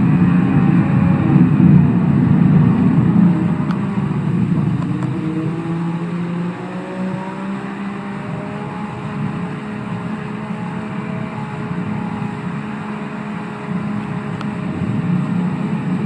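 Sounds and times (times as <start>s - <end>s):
jet ski engine accelerating: 0.0s - 16.0s
rush of water and wind: 0.0s - 16.0s.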